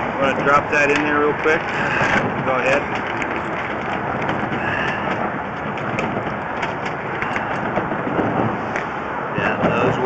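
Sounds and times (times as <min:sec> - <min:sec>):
air compressor engine running: 0:00.0 - 0:10.0
small clicks and rattles: 0:00.2 - 0:08.8.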